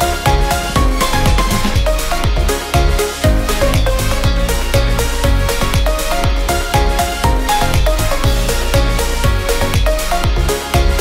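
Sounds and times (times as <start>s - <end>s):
electronic music: 0.0s - 11.0s
held synth notes: 0.0s - 11.0s
kick drum beat: 0.0s - 11.0s.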